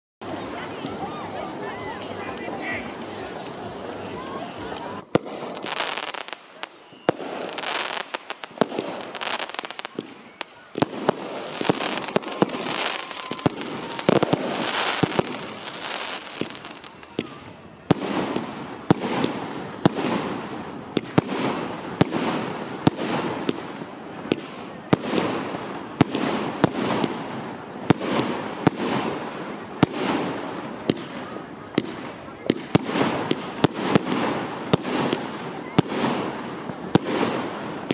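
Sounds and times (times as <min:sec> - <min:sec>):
fireworks banging and crackling: 0:00.2 - 0:37.9.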